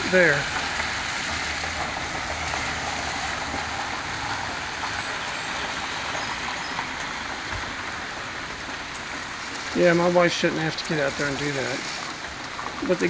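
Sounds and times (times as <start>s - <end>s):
rain falling: 0.0s - 13.0s
water streaming across gravel: 0.0s - 13.0s.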